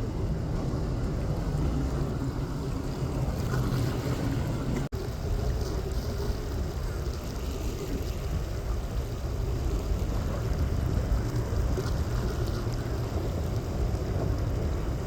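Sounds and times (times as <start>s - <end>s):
motorboat engines rumbling: 0.0s - 15.0s.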